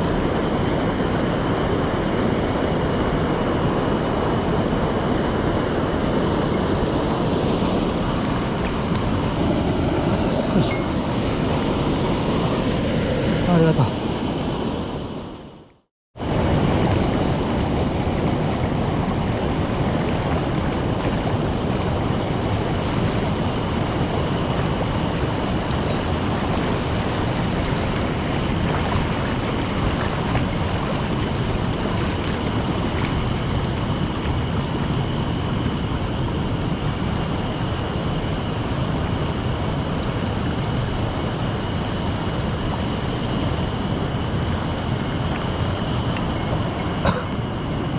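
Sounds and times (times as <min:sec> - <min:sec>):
stream water rushing: 0:00.0 - 0:47.4.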